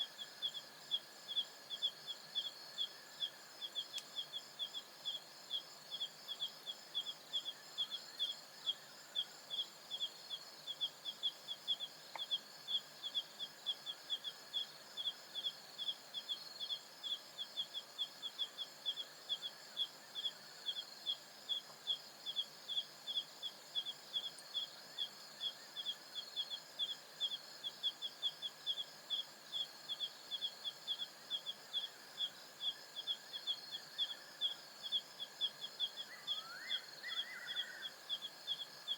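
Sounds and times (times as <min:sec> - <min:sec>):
insects trilling: 0:00.0 - 0:38.9
loud high insect chirp: 0:00.0 - 0:38.9.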